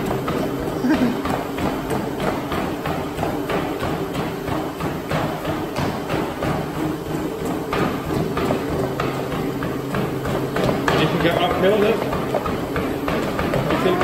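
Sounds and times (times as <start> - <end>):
footsteps running on treadmill: 0.0 - 14.0
treadmill motors humming: 0.0 - 14.0.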